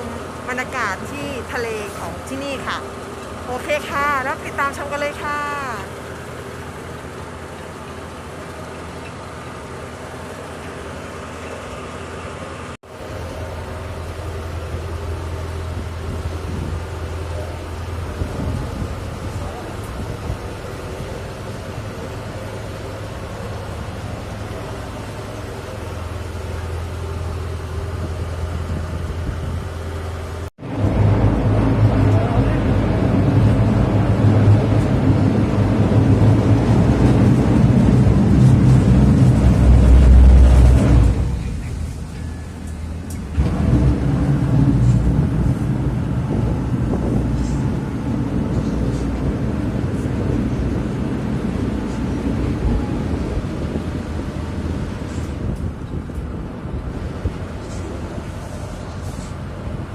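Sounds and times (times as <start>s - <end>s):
ferry engine humming: 0.0s - 59.9s.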